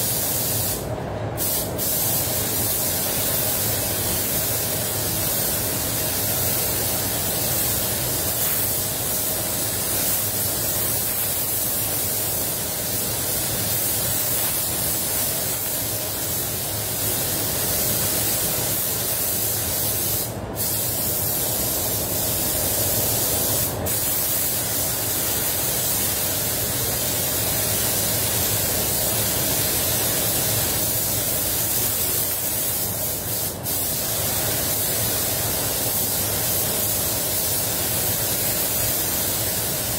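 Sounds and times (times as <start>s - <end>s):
paint spray gun hissing: 0.0s - 39.9s.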